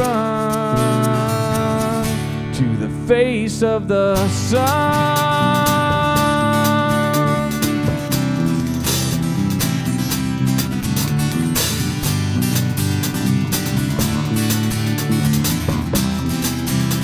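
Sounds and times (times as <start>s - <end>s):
drums: 0.0s - 2.8s, 4.1s - 17.0s
bass guitar: 0.0s - 17.0s
strummed acoustic guitar: 0.0s - 17.0s.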